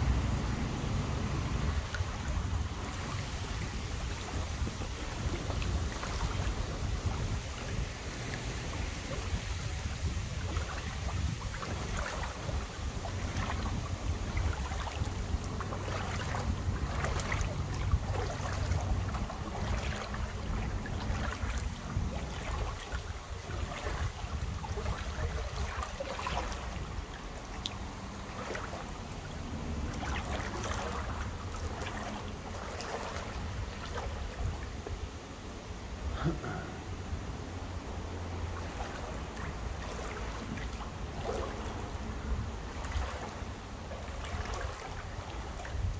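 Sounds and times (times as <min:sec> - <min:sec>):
stream water flowing: 0:00.0 - 0:45.9
wind rumbling on microphone: 0:00.0 - 0:45.9.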